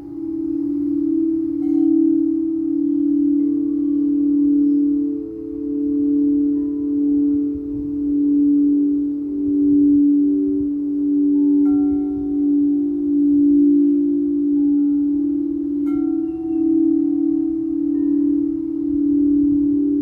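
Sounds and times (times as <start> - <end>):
singing bowl pulsing drone: 0.0 - 20.0.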